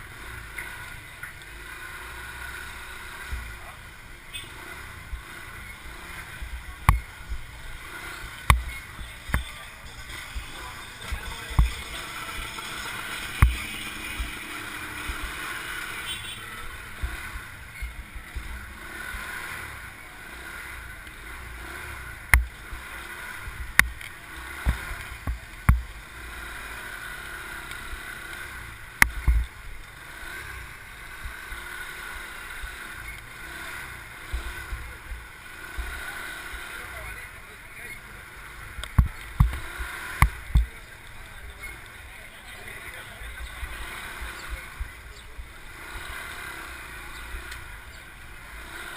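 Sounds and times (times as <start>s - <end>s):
motorbike road noise: 0.0s - 48.9s.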